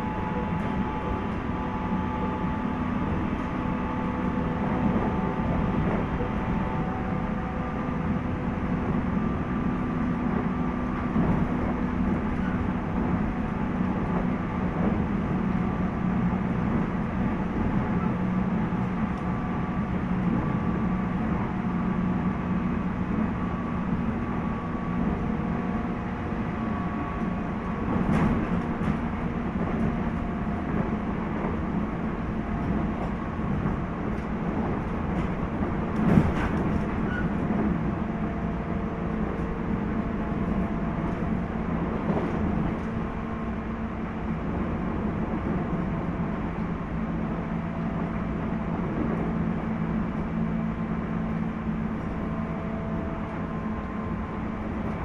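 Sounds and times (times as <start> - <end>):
rumble of train wheels: 0.0 - 55.0.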